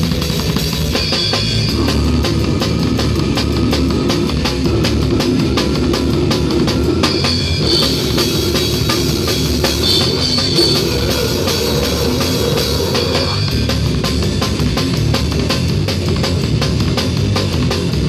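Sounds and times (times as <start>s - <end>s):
metal band playing live: 0.0s - 18.0s
rapid drum and cymbal hits: 0.0s - 18.0s.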